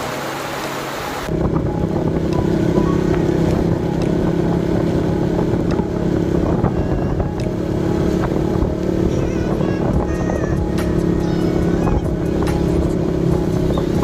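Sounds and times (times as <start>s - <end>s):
wind rumbling on microphone: 0.0s - 14.0s
motorcycle engine running: 1.3s - 14.0s.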